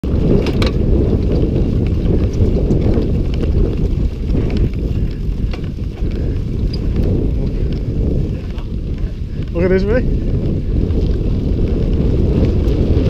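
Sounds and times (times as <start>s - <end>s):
bike clicks and rattles: 0.0s - 13.0s
tyre noise: 0.0s - 13.0s
wind rumbling on microphone: 0.0s - 13.0s.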